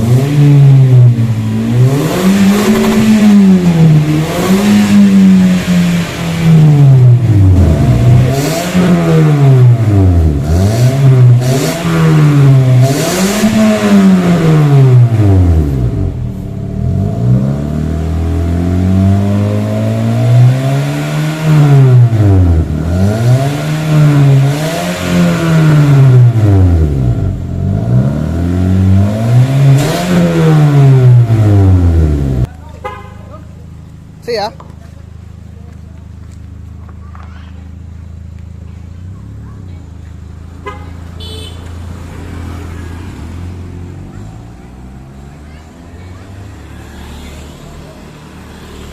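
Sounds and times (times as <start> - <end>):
car engine revving: 0.0 - 36.3, 37.8 - 48.9.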